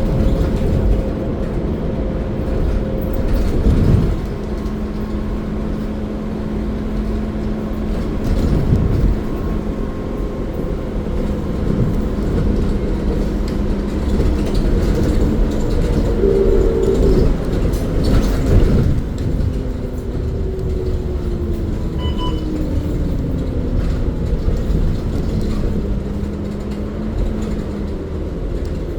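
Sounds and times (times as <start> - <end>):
vehicle rumble from inside: 0.0 - 28.9.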